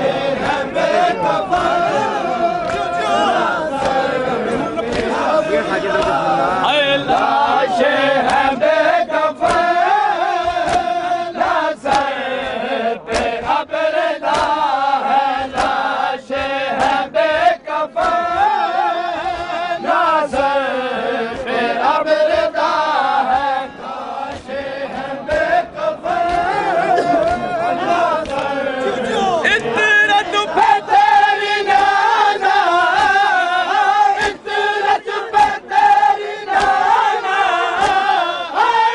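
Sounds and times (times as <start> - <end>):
men chanting in unison: 0.0 - 38.9
hands slapping chests: 0.1 - 6.4, 8.2 - 20.5, 21.3 - 28.6, 30.6 - 38.8.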